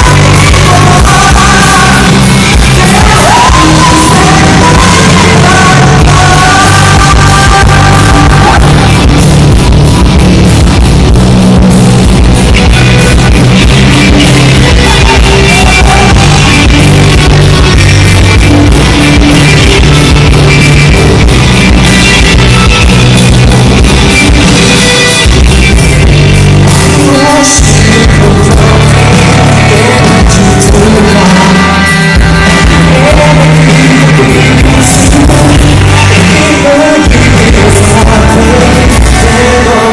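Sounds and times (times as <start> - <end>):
person singing: 0.0 - 10.2, 12.2 - 39.9
steady drum beat: 0.0 - 39.4
rock band playing live: 0.0 - 39.9.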